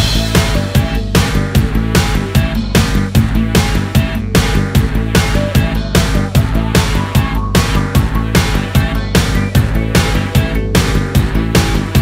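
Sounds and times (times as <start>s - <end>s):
music with fast beat: 0.0s - 12.0s.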